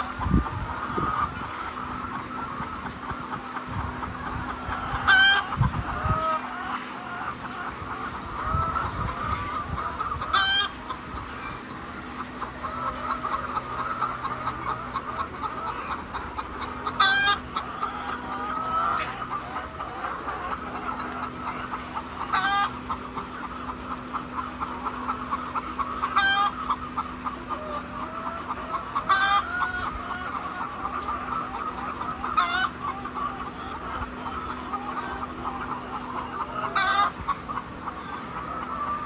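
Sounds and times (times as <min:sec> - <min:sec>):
hens clucking: 0:00.0 - 0:39.0.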